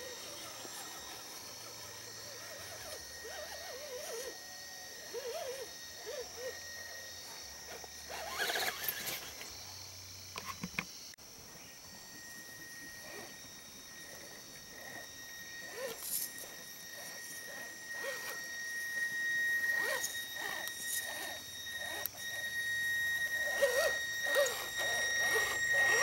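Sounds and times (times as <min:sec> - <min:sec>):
electric motor whine: 0:00.0 - 0:26.0.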